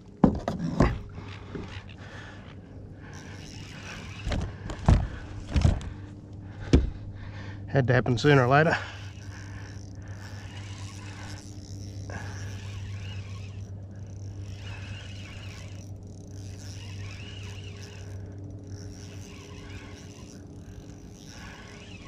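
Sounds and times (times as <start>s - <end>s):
steady low hum: 0.0s - 22.0s
birds calling: 1.1s - 22.0s.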